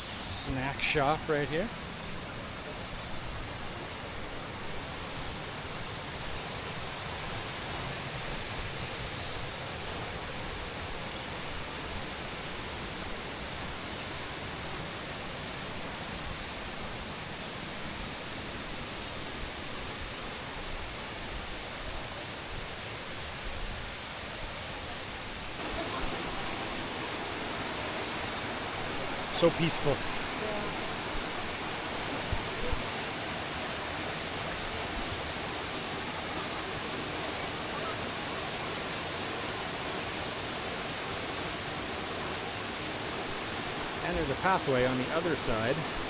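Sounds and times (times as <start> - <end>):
rushing waterfall and river: 0.0 - 46.0.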